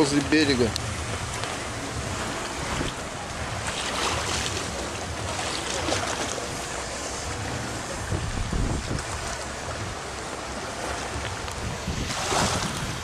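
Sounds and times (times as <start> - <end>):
sea water washing against rocks: 0.0 - 13.0
wind noise on microphone: 0.0 - 13.0.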